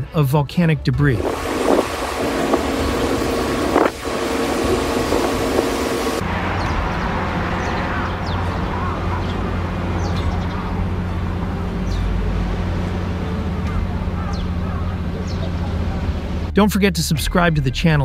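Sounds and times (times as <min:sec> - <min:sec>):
low rumble with hum: 0:01.0 - 0:17.3.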